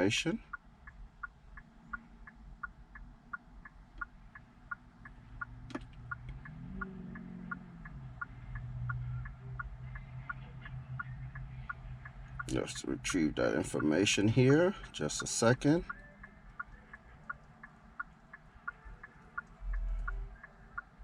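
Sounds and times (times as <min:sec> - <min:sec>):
low steady hum: 0:00.0 - 0:21.0
rapid ticking: 0:00.4 - 0:21.0.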